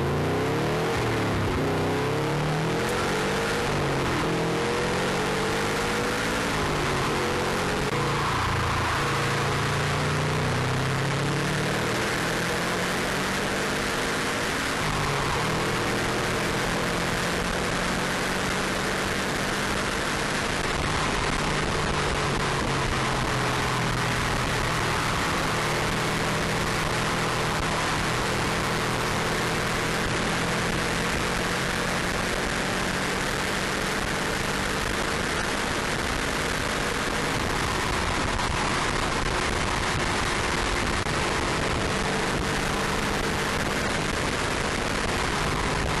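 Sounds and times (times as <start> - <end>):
car engine running at speed: 0.0 - 46.0
wind and road noise: 0.0 - 46.0.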